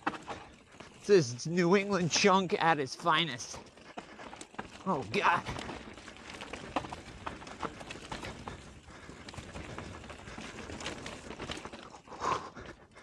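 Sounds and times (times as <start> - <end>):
bike rattling over rocks: 0.0 - 13.0.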